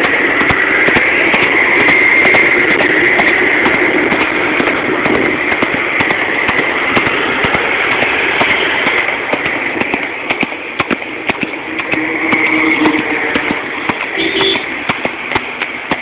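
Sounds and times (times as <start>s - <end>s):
horse hooves clopping on asphalt: 0.0s - 16.0s
traffic noise: 0.0s - 16.0s.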